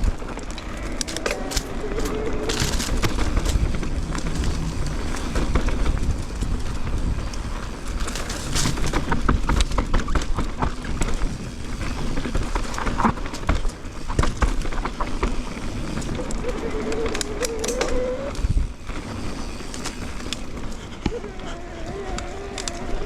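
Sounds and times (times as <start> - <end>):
bike rattling over rocks: 0.0 - 23.0
wind rumble on microphone: 0.0 - 23.0.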